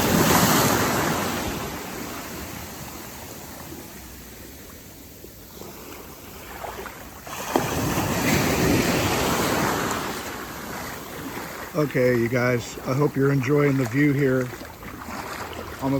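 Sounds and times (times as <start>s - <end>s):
small waves breaking on beach: 0.0s - 15.9s.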